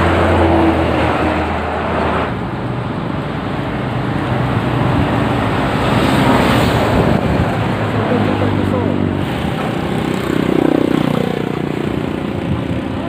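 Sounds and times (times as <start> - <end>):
cars and motorcycles passing: 0.0 - 13.0.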